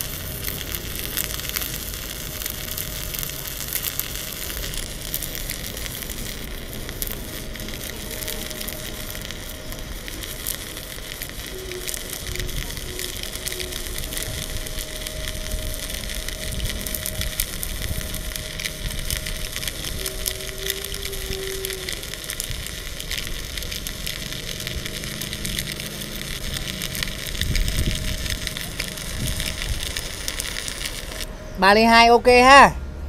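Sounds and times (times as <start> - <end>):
welding arc crackling: 0.0 - 32.7.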